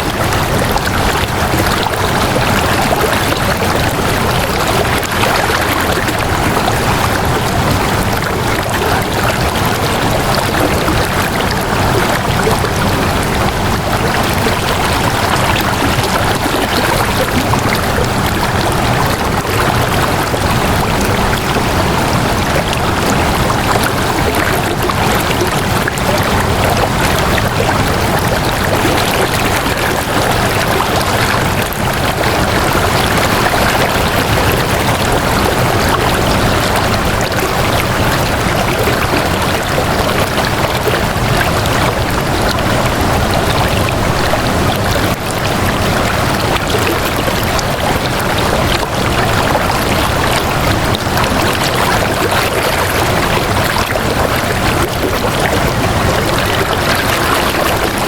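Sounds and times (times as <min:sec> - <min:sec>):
water flowing: 0:00.0 - 0:58.0.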